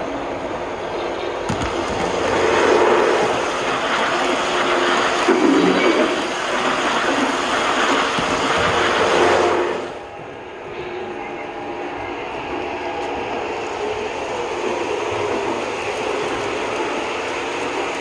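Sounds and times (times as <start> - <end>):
model train rushing past: 0.0 - 18.0.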